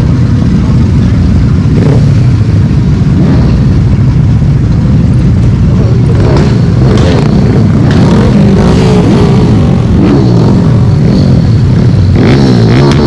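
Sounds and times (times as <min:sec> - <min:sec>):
vehicle engines revving: 0:00.0 - 0:13.0.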